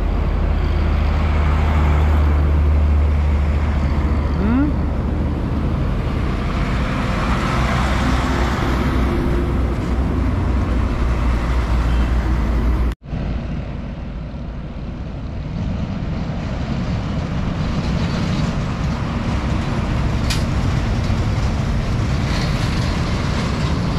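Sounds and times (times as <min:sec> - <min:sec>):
truck engine rumbling: 0:00.0 - 0:23.9.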